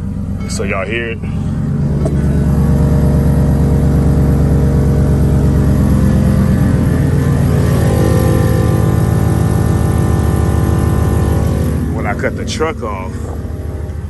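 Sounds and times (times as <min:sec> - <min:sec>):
air compressor drone: 0:00.0 - 0:14.0
truck engine idling: 0:00.0 - 0:14.0.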